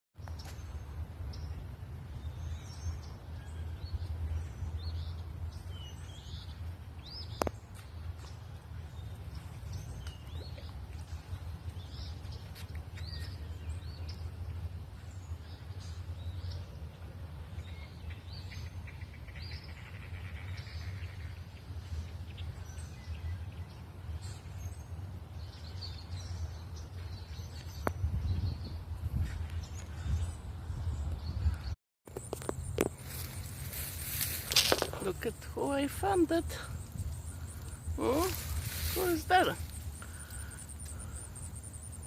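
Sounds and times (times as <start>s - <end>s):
steady low rumble: 0.3s - 42.0s.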